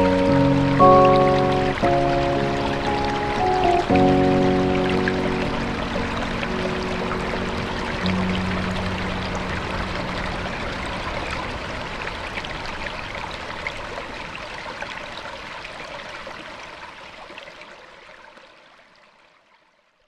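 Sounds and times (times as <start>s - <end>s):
stream water rushing: 0.0s - 18.6s.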